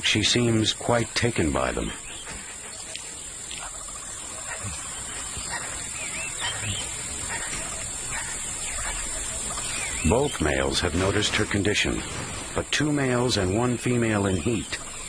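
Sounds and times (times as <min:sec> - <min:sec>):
insect drone: 0:00.0 - 0:15.0
bird chirps: 0:00.9 - 0:15.0.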